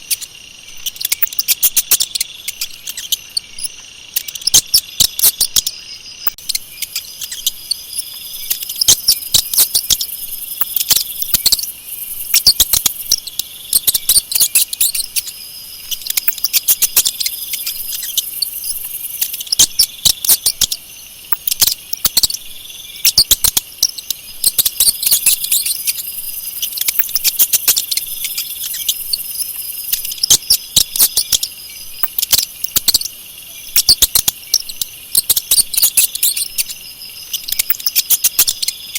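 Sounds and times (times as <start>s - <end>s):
mice squeaking: 0.0s - 38.9s.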